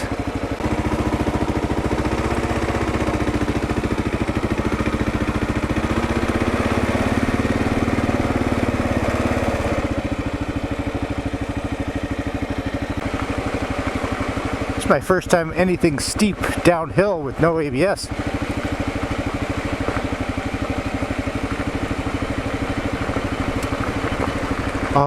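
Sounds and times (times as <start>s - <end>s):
motorcycle engine pulsing at low revs: 0.0s - 25.0s.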